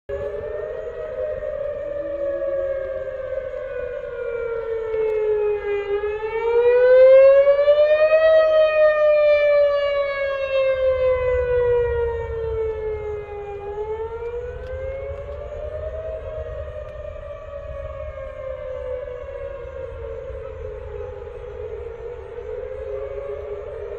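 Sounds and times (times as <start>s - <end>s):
warning siren wailing: 0.1s - 23.9s.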